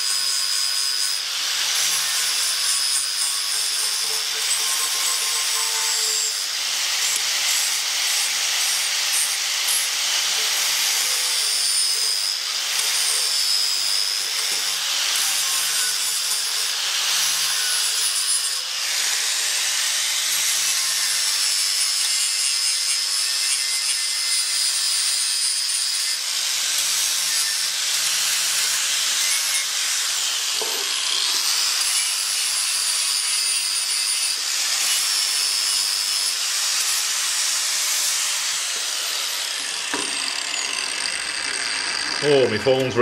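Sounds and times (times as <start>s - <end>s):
angle grinder grinding metal: 0.0s - 43.0s.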